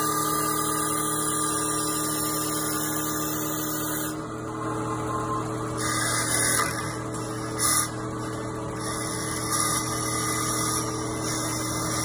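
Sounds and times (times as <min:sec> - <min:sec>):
wood lathe electric hum: 0:00.0 - 0:12.0.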